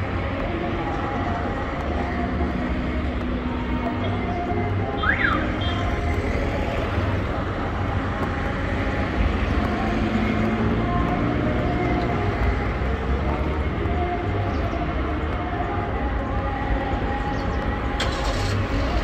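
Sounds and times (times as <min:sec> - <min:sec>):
rumble of road traffic: 0:00.0 - 0:19.0.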